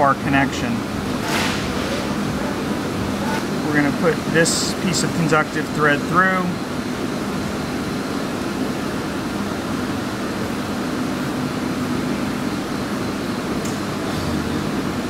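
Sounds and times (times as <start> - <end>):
fan hum and hiss: 0.0 - 15.0.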